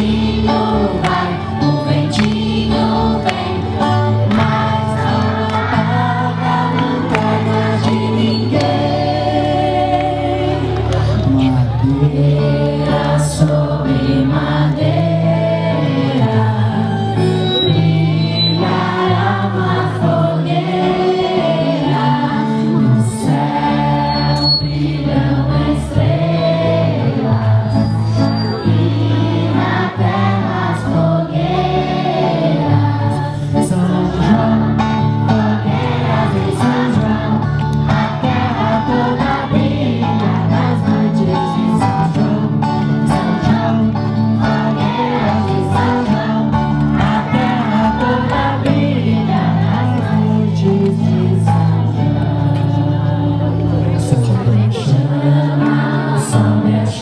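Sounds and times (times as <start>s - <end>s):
instrumental accompaniment: 0.0s - 56.8s
group of voices singing: 0.0s - 57.0s.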